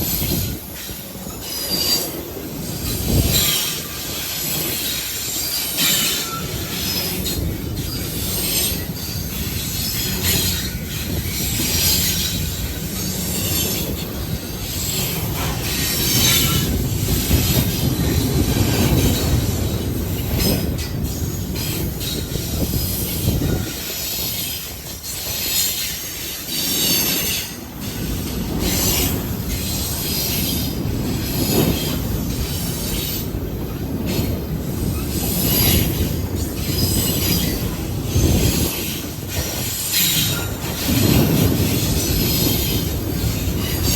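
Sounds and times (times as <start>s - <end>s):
steel wheels rumbling on rail: 0.0s - 43.9s
train wheel squeal: 0.0s - 43.9s.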